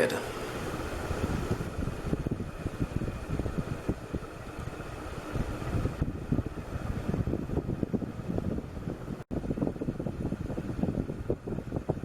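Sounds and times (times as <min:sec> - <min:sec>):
ceiling fan air buffeting microphone: 0:00.0 - 0:12.0
faint motor hum: 0:00.0 - 0:12.0.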